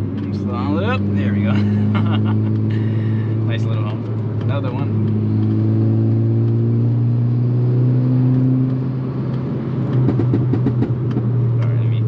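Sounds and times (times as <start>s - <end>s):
exhaust pops and crackles: 0.0s - 7.5s, 8.1s - 12.0s
car engine running under load: 0.0s - 12.0s.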